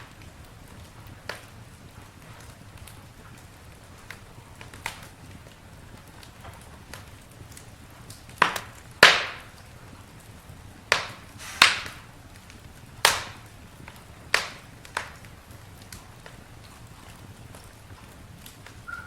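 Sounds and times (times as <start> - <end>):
campfire wood crackling: 0.0 - 19.0.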